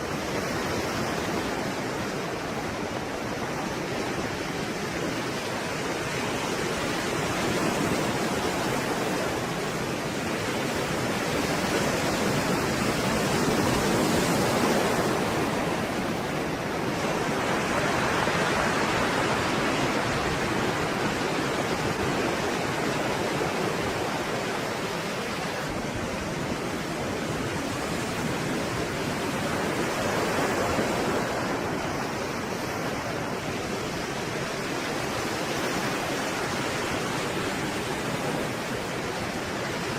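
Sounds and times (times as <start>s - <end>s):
breaking waves: 0.0s - 39.9s.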